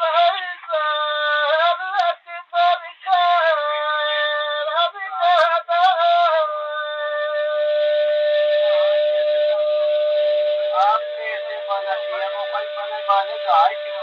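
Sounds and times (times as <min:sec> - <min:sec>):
person singing folk song: 0:00.0 - 0:09.1, 0:10.7 - 0:14.0.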